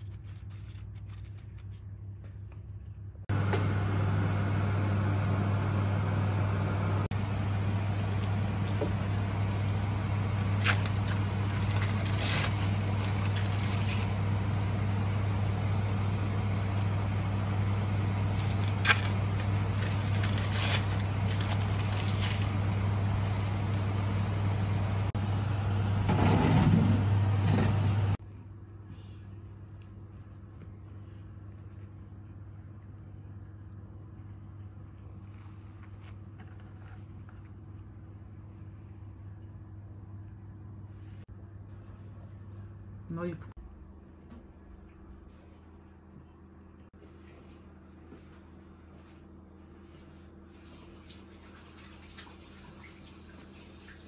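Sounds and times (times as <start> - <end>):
electric fan humming: 3.3 - 52.7.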